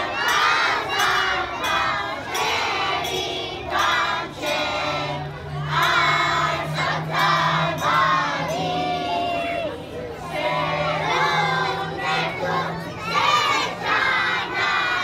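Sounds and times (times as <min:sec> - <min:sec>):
children shouting rhythmically: 0:00.0 - 0:15.0.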